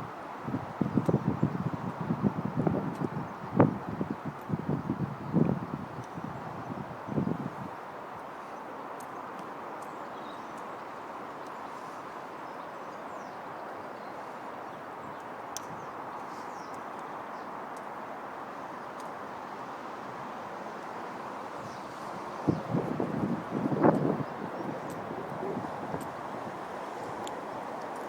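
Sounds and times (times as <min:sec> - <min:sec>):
constant outdoor hiss: 0:00.0 - 0:28.0.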